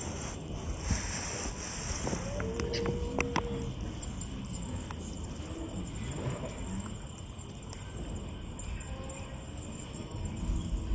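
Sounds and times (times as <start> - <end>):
crickets chirping: 0.0 - 10.9
low rumbling background: 0.0 - 10.9.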